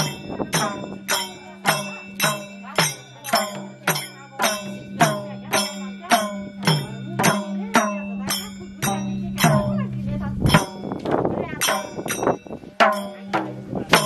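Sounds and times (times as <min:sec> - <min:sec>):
hand drums beating steadily: 0:00.0 - 0:14.0.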